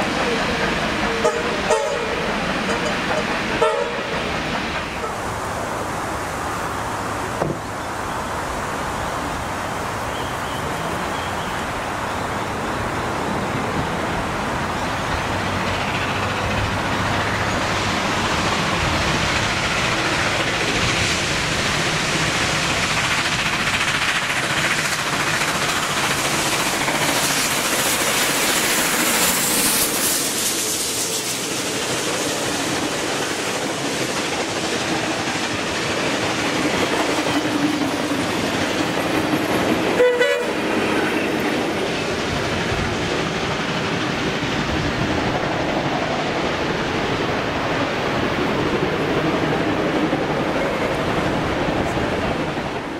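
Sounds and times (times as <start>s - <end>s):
carriages rolling on rails: 0.0s - 52.9s
steam locomotive passing: 0.0s - 52.9s.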